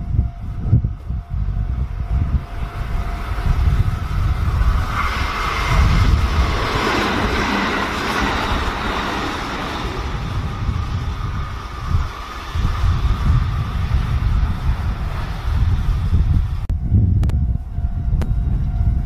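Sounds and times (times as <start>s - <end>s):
electric train passing: 0.0s - 19.0s
wheels rushing on rails: 0.0s - 19.0s.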